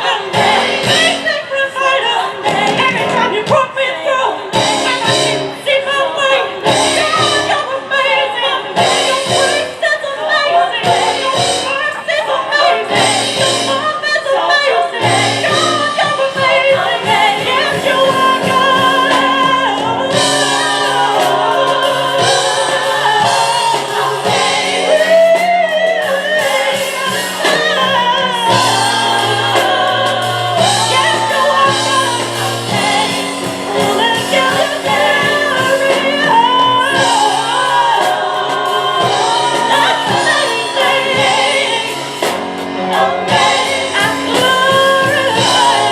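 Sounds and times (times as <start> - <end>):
vocal group singing gospel: 0.0 - 45.9
instrumental accompaniment: 4.4 - 45.9.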